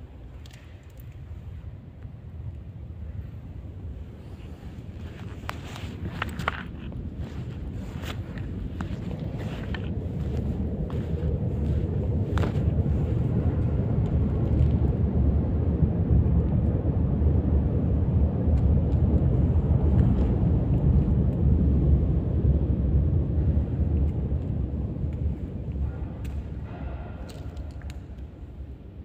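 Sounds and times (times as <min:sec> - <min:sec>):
dense low rumble: 0:01.1 - 0:29.0.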